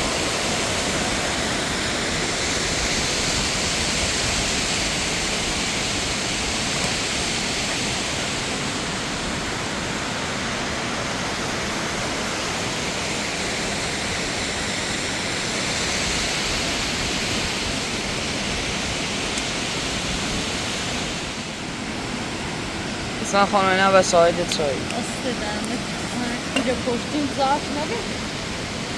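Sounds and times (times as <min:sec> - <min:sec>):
rushing mountain water: 0:00.0 - 0:28.9.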